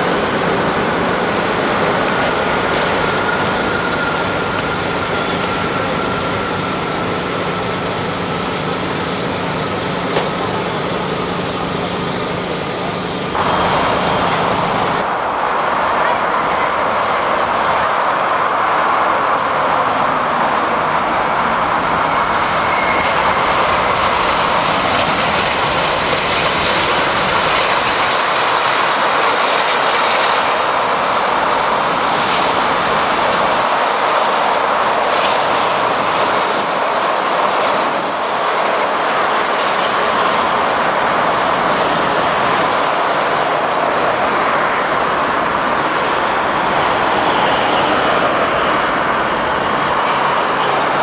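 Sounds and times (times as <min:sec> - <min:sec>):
jet engines landing: 0:00.0 - 0:51.0.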